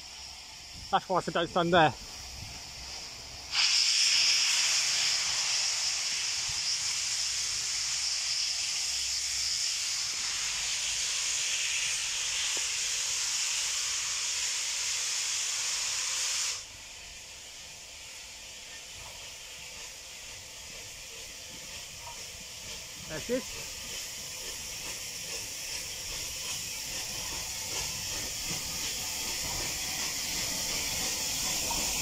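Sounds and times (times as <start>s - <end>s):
steam locomotive venting steam: 0.0s - 32.0s.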